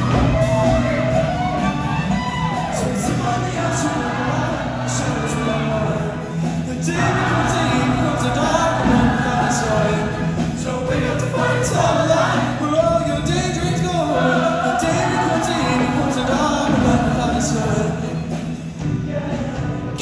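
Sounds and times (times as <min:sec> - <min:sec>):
choir singing: 0:00.0 - 0:20.0
instrumental backing music: 0:00.0 - 0:20.0.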